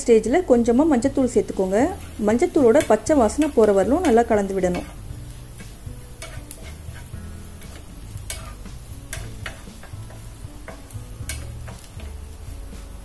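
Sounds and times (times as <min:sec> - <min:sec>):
onions sizzling: 0:00.0 - 0:13.0
spatula scraping frying pan: 0:01.4 - 0:13.0.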